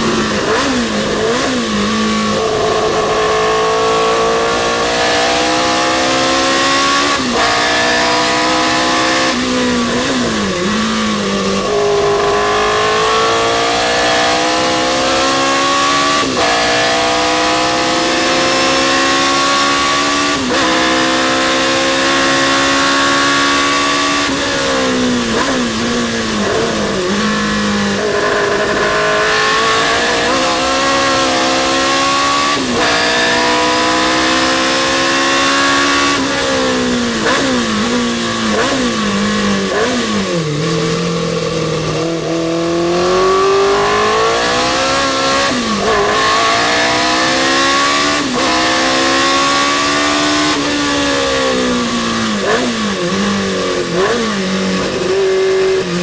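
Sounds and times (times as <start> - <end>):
racing car engine at full throttle: 0.0 - 56.0.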